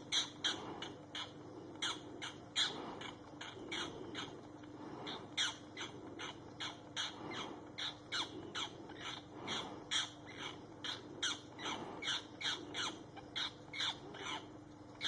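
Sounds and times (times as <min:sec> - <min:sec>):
bird squawking: 0:00.0 - 0:04.3, 0:05.0 - 0:14.5
faint steady hum: 0:00.0 - 0:15.0.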